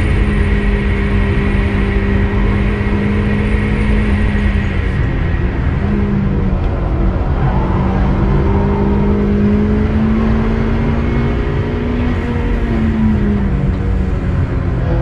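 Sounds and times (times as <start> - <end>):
car engine revving hard: 0.0 - 15.0
low rumble: 0.0 - 15.0.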